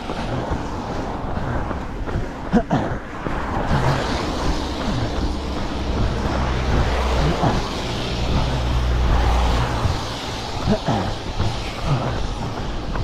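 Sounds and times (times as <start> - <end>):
low traffic rumble: 0.0 - 13.0
tyres hissing on wet road: 0.0 - 13.0.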